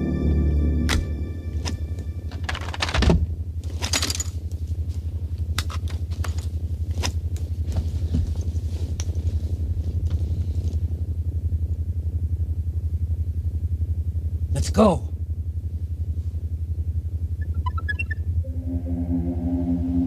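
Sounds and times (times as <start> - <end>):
deep pulsing electric hum: 0.0 - 3.7, 4.3 - 20.0.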